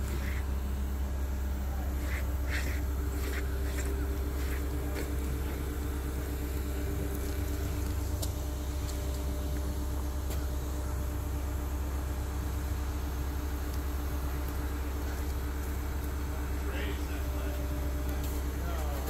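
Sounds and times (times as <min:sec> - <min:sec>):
crane diesel engine running: 0:00.0 - 0:19.0.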